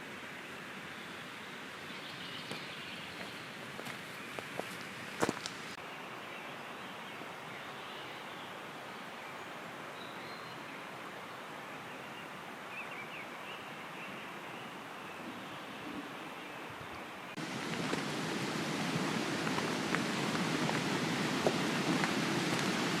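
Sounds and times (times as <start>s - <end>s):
outdoor forest hiss: 0.0s - 23.0s.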